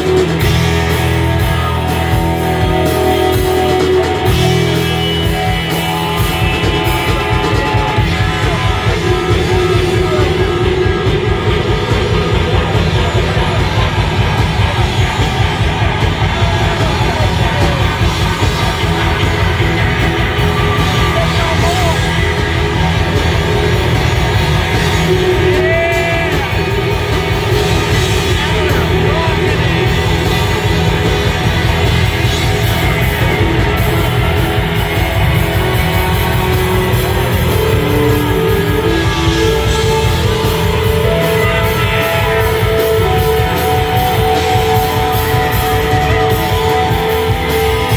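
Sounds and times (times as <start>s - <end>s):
drums: 0.0s - 47.9s
electric guitars: 0.0s - 47.9s
rock band playing live: 0.0s - 47.9s.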